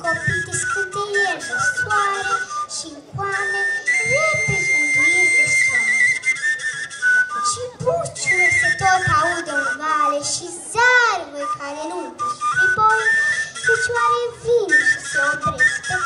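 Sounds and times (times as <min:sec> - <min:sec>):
girl singing folk song: 0:00.0 - 0:05.1, 0:07.4 - 0:13.1, 0:13.7 - 0:16.0
high folk flute with trills: 0:00.0 - 0:16.0.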